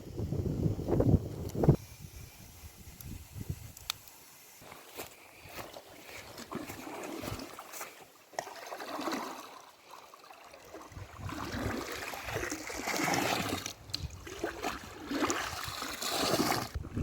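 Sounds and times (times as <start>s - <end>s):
stream water trickling: 2.9s - 17.0s.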